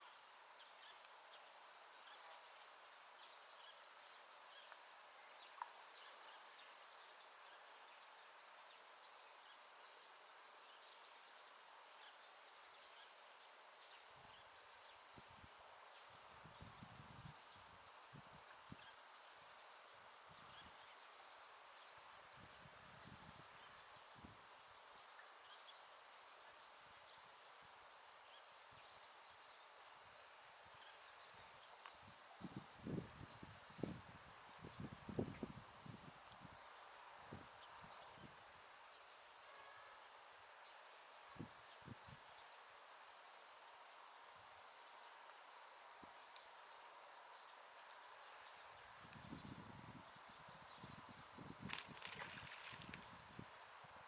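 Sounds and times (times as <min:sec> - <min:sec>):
insects chirping: 0:00.4 - 0:54.0.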